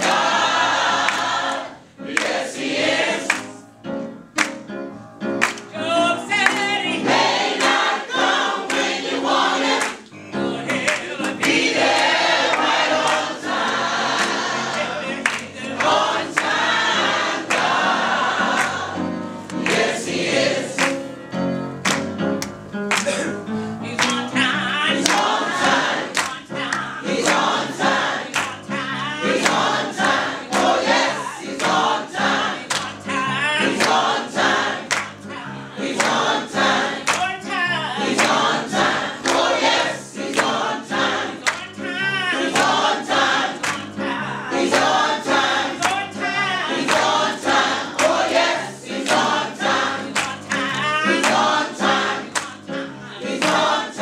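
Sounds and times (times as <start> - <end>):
gospel choir singing: 0.0 - 4.4, 5.2 - 54.0.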